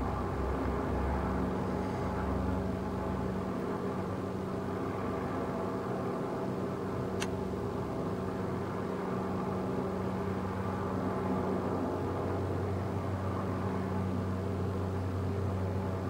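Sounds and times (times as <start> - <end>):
helicopter engine and rotor droning: 0.0 - 16.0.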